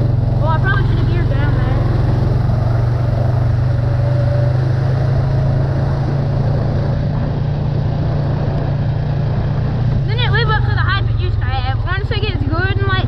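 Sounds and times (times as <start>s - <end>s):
off-road vehicle engine running: 0.0s - 13.0s
road and wind noise: 0.0s - 13.0s.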